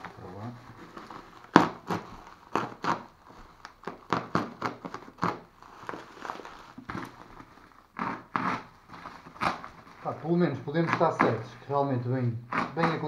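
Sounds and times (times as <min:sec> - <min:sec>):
bubble wrap crackling: 0:00.0 - 0:11.5.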